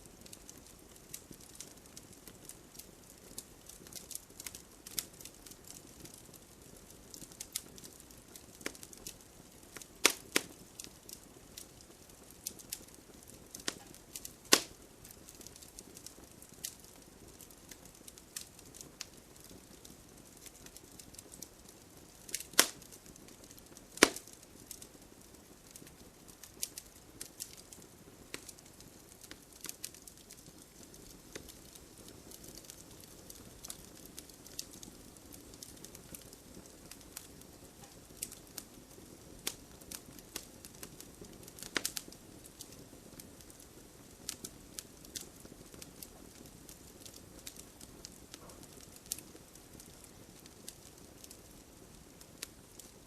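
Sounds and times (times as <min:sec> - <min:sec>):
campfire crackling and popping: 0:00.0 - 0:53.0
faint steady hiss: 0:00.0 - 0:53.0.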